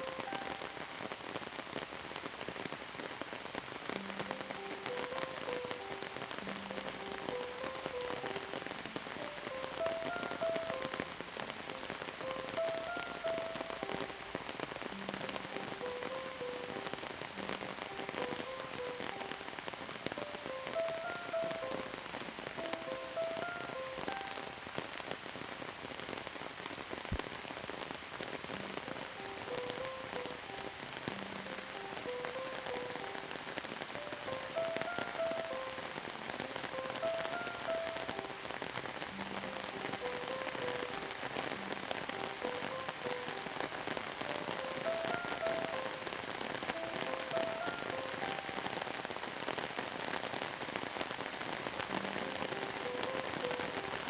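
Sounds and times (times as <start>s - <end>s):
soft gentle melody: 0.0s - 25.5s, 28.0s - 54.0s
rain pattering: 0.0s - 54.0s.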